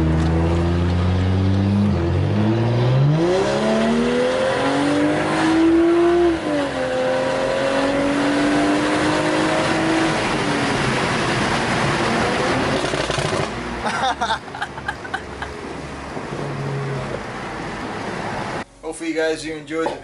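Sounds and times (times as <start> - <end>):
car engine accelerating: 0.0 - 18.6.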